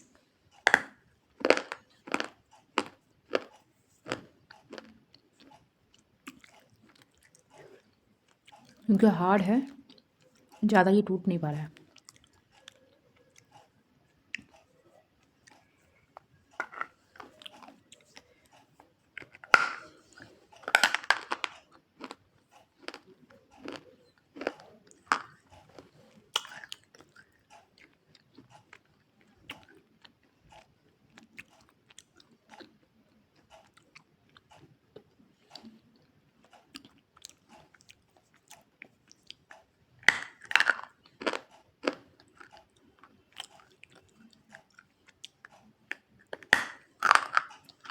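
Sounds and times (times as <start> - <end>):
chewing hard clay crunches: 0.6 - 8.9, 15.3 - 47.9.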